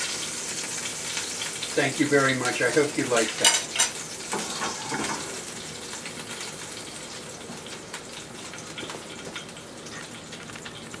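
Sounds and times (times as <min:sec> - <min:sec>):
fat sizzling in frying pan: 0:00.0 - 0:11.0.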